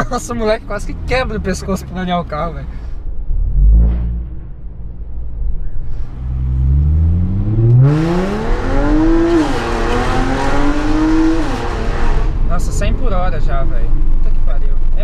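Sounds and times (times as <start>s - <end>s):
car engine accelerating: 0.4s - 15.0s.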